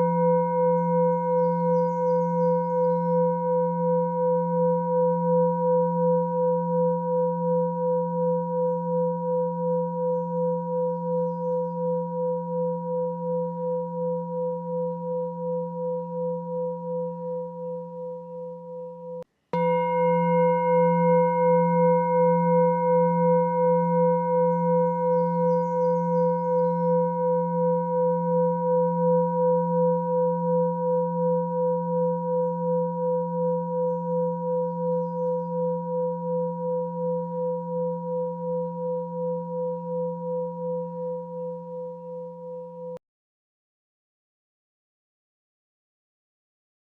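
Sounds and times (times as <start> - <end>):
singing bowl ringing: 0.0 - 43.0.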